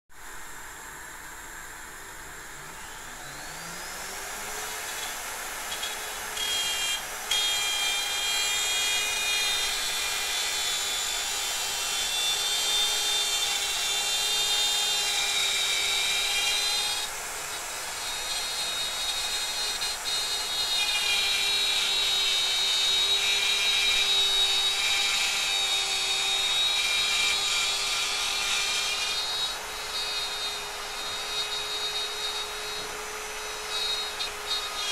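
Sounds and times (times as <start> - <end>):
wood router whining: 0.4 - 34.9
router cutting wood: 0.7 - 34.9.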